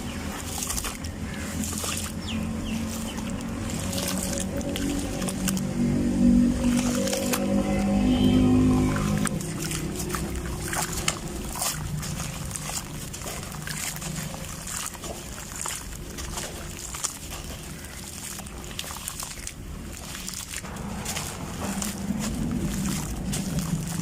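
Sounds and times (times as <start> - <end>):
dry sand-cement crunching: 0.0 - 24.0.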